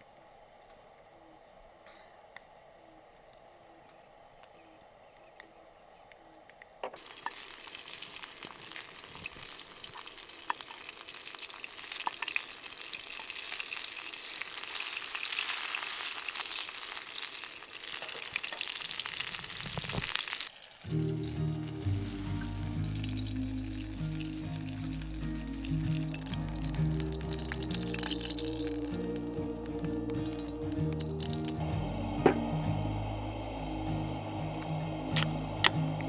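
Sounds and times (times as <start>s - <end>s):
meat sizzling on hot surface: 7.0s - 36.0s.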